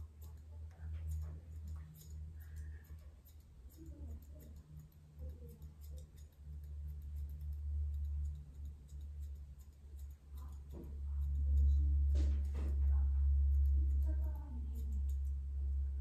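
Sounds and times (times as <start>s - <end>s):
scissors snipping hair: 0.0s - 16.0s
steady low hum: 0.0s - 16.0s.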